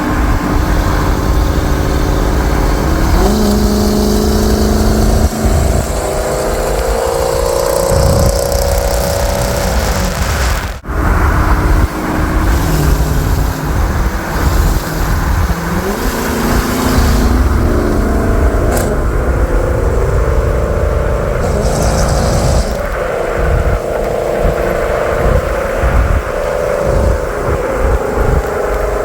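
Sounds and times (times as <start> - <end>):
loud engine exhaust rumbling: 0.0 - 29.0.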